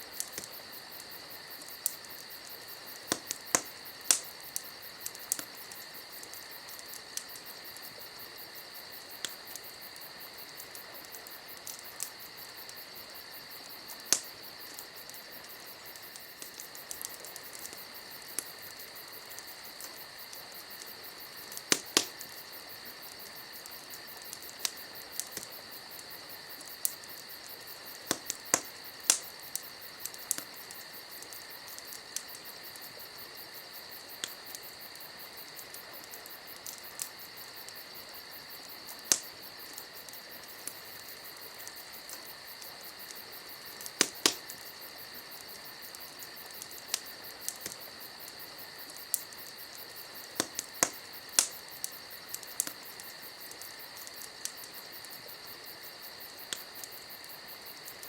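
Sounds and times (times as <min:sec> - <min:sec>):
campfire crackling and popping: 0:00.0 - 0:58.0
insects chirring: 0:00.0 - 0:58.0.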